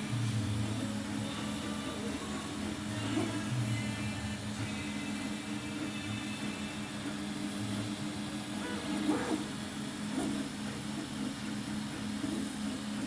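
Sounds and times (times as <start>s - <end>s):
printer motors and fans humming: 0.0s - 13.0s.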